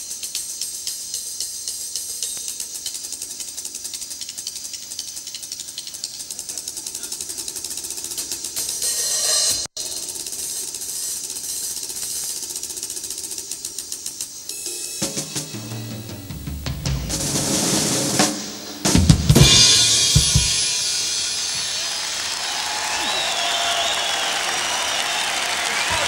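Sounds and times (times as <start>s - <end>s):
rapid stick strokes on cymbals: 0.0s - 22.6s.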